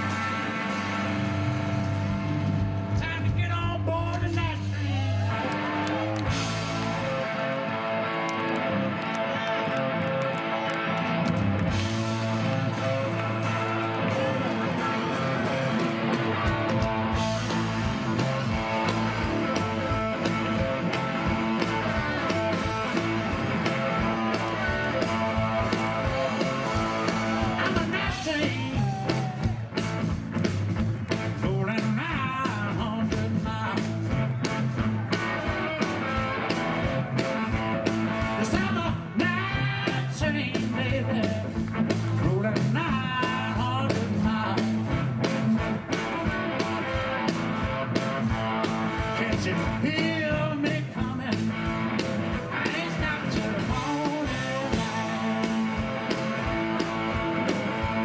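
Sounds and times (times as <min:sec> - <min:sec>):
electric guitar playing: 0:00.0 - 0:03.0, 0:05.1 - 0:58.0
drums low beat: 0:00.0 - 0:05.1, 0:11.7 - 0:58.0
bass guitar: 0:00.0 - 0:58.0.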